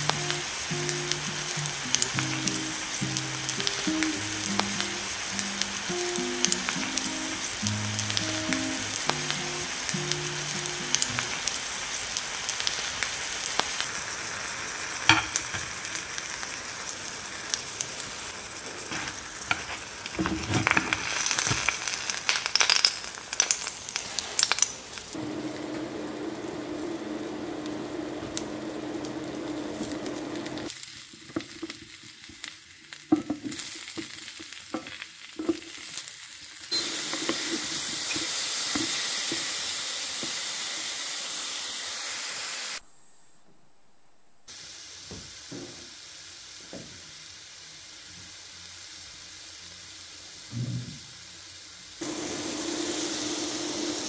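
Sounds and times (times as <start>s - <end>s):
food sizzling in a pan: 0.0s - 42.8s, 44.5s - 54.0s.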